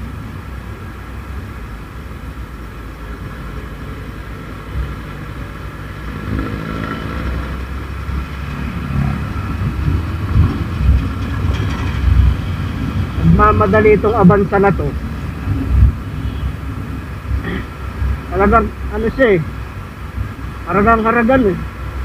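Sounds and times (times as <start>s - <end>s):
motorcycle engine: 0.0s - 22.0s
wind and road rumble: 0.0s - 22.0s.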